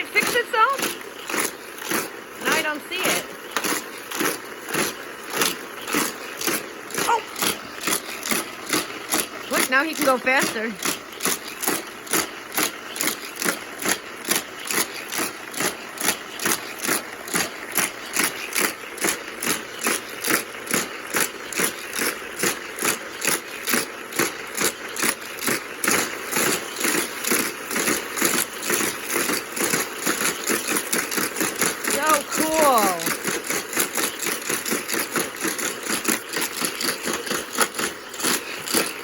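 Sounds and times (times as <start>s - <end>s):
toy cars clattering on plastic track: 0.0s - 39.0s
track booster motor whirring: 0.0s - 39.0s.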